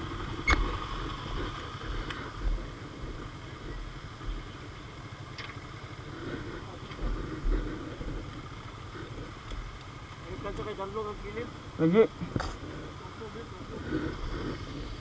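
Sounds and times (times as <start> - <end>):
motorcycle engines running slowly: 0.0 - 15.0.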